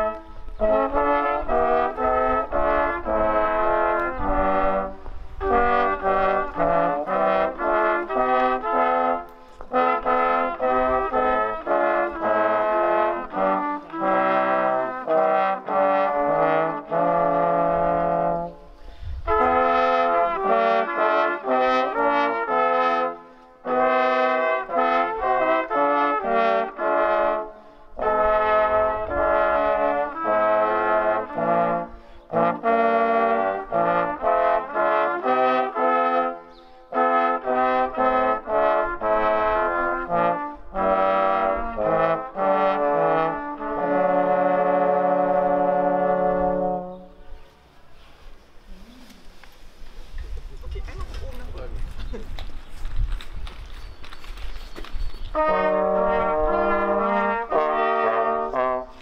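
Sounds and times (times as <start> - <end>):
brass quartet playing chords: 0.0 - 47.5, 55.3 - 59.0.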